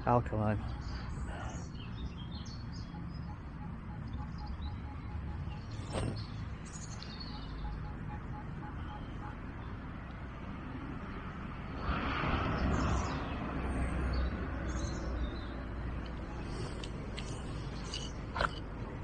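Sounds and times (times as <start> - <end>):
small birds chirping: 0.0 - 9.9, 12.5 - 19.0.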